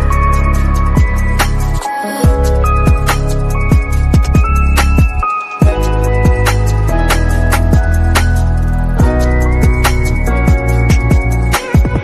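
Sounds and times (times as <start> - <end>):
electronic music with deep drum beat: 0.0 - 12.0.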